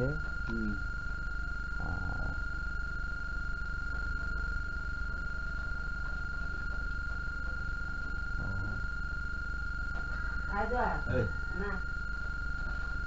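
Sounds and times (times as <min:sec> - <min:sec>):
high-pitched electronic whine: 0:00.0 - 0:13.0
low mains hum: 0:00.0 - 0:13.0.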